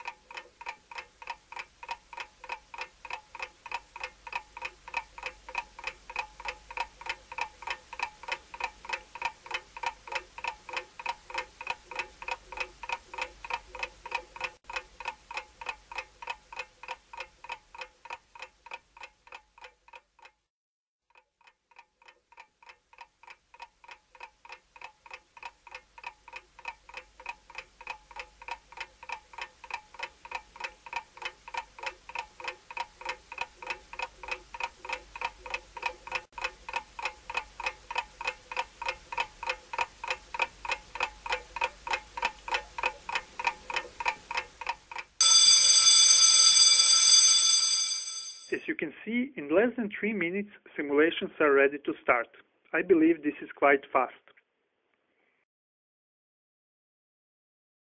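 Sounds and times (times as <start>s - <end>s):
clock ticking: 0.0s - 20.5s, 21.1s - 48.6s.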